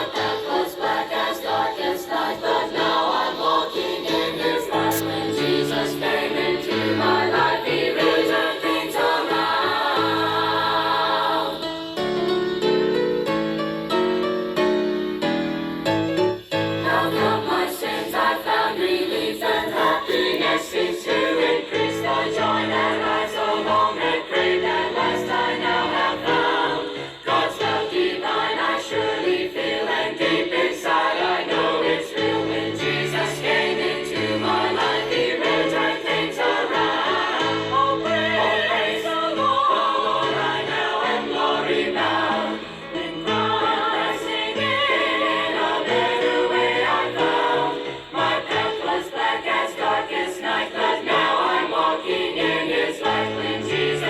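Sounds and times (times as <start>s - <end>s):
choir singing gospel: 0.0s - 15.4s, 16.5s - 54.0s.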